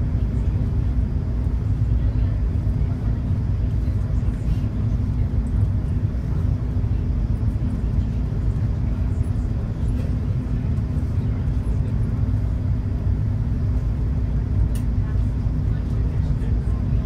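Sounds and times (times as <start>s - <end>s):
constant hum: 0.0s - 17.0s
ferry engine drone: 0.0s - 17.0s.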